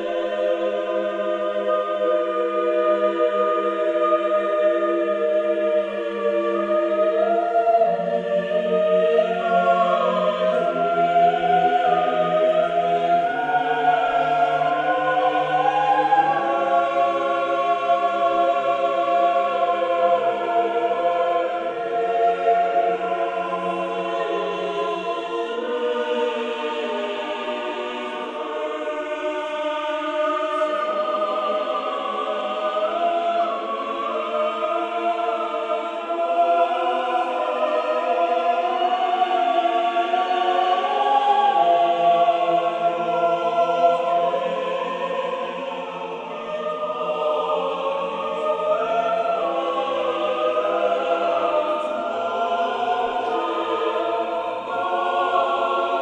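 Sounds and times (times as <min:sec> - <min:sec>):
choir singing slow chords: 0:00.0 - 0:56.0.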